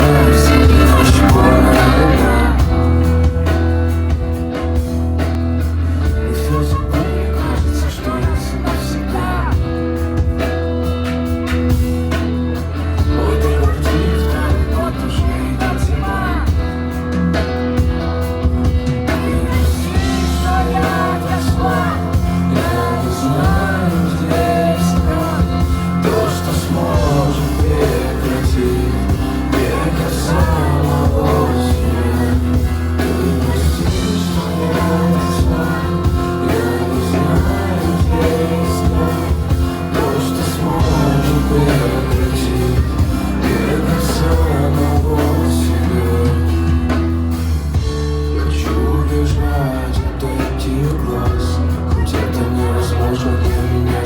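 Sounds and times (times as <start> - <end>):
lead singer singing: 0.0 - 4.6, 5.6 - 10.5, 12.6 - 17.9, 18.5 - 54.0
guitars: 0.0 - 54.0
heavy bass: 0.0 - 54.0.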